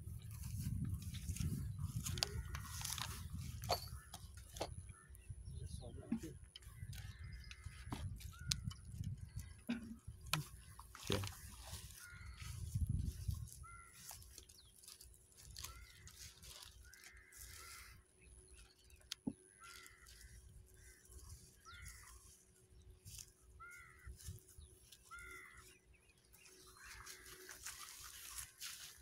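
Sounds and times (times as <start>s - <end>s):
faint bird calls: 1.3s - 29.0s.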